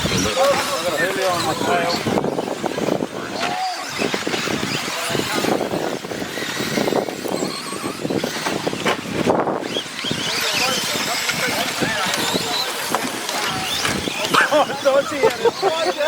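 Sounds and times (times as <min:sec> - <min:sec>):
small motors whining: 0:00.0 - 0:16.0
tyres scrabbling on dirt: 0:00.0 - 0:16.0.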